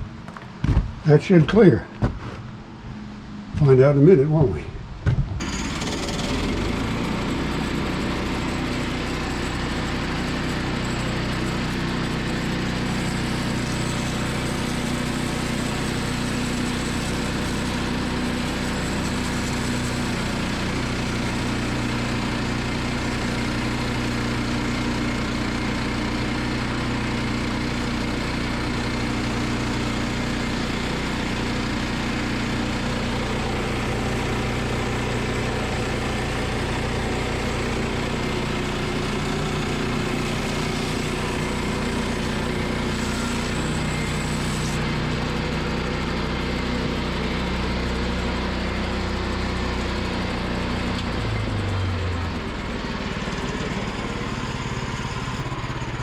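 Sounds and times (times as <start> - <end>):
bandsaw sawing through log: 5.4 - 51.2
sawmill gas engine running: 5.4 - 56.0.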